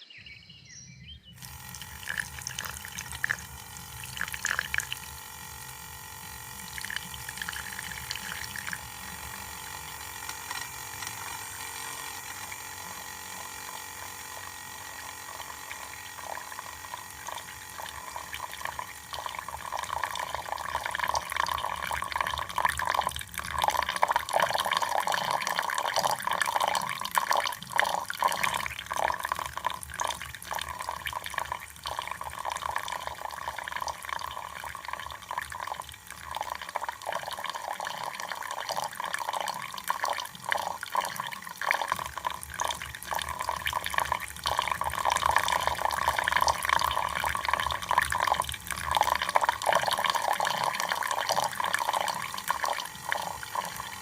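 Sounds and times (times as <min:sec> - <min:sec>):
small water drips: 0:01.4 - 0:54.0
water running and splashing: 0:01.4 - 0:54.0.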